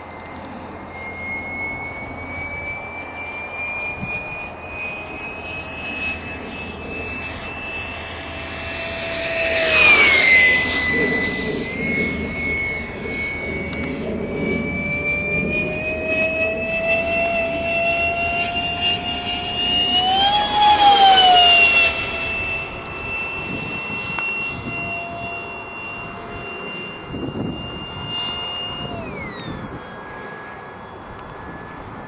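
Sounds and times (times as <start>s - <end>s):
model jet fan whining: 0.0s - 32.0s.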